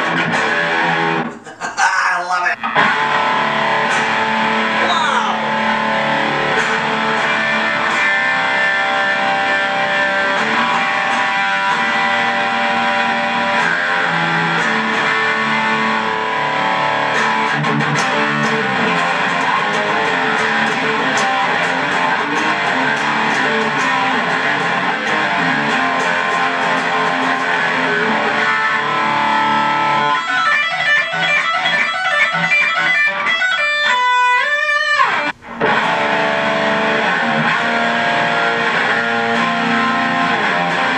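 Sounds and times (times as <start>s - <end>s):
electric guitar playing: 0.0s - 1.4s, 2.6s - 40.9s.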